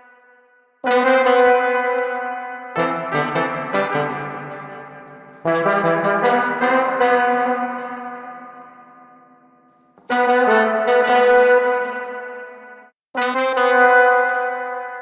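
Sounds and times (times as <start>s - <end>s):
brass horns with spring reverb: 0.0s - 15.0s.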